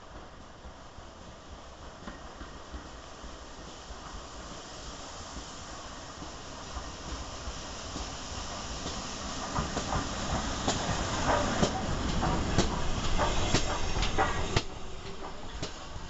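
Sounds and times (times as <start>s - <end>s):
steam hiss: 0.0s - 16.0s.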